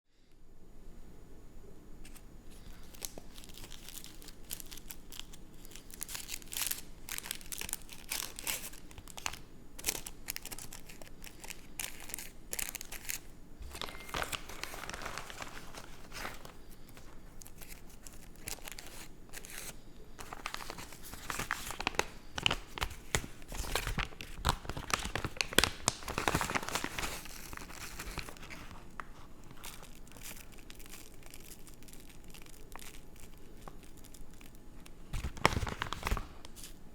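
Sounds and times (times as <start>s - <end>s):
paper and tobacco rustling: 2.1s - 36.9s.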